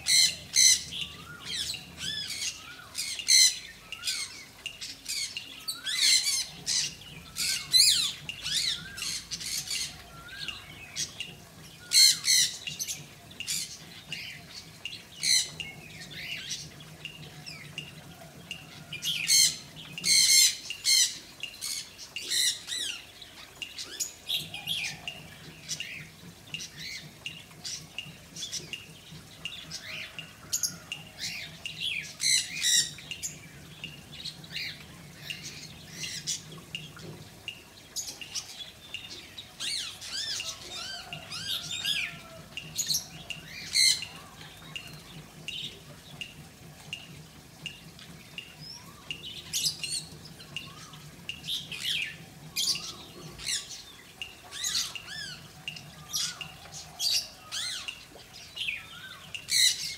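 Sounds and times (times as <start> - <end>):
birds chirping and squawking: 0.0 - 59.9.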